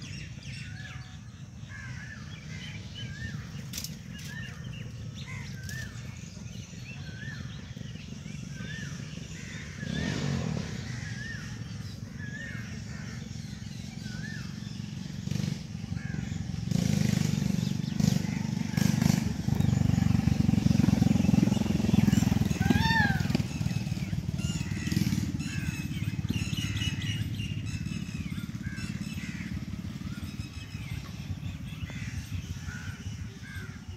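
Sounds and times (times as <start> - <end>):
bird calling: 0.0 - 33.9.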